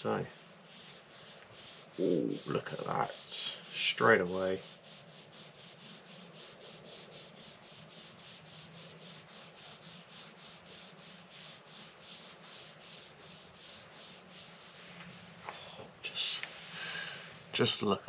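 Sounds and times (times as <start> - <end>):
cloth rubbing on wood: 0.0 - 17.5.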